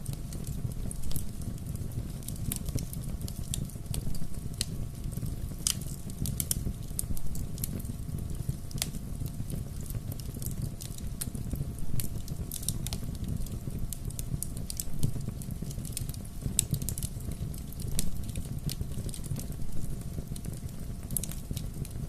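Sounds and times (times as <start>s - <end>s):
bonfire crackling: 0.0s - 22.0s.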